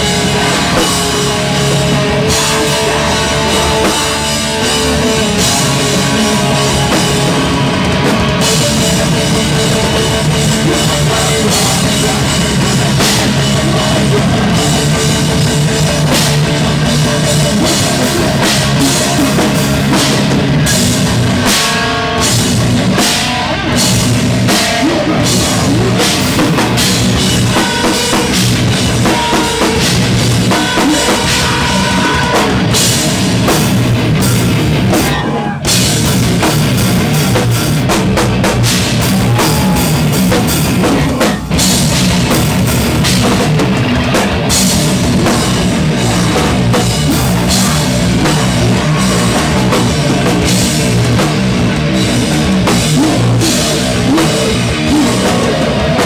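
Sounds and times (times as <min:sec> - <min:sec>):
bass guitar: 0:00.0 - 0:56.0
drum kit pounding: 0:00.0 - 0:56.0
electric guitars: 0:00.0 - 0:56.0.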